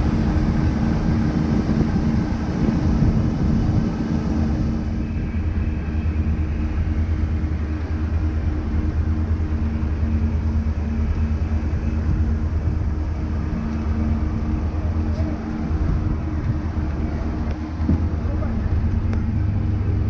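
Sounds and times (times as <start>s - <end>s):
boat engines droning: 0.0s - 20.0s
constant hum: 0.0s - 20.0s.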